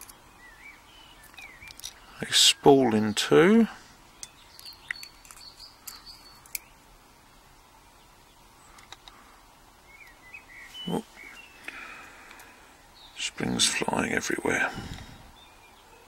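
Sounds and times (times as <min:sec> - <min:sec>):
faint bird chirps: 0:00.0 - 0:03.4, 0:04.1 - 0:06.9, 0:07.6 - 0:16.0.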